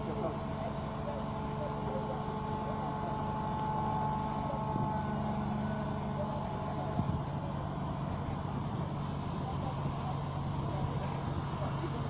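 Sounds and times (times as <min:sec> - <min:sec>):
crane diesel engine running: 0:00.0 - 0:12.0.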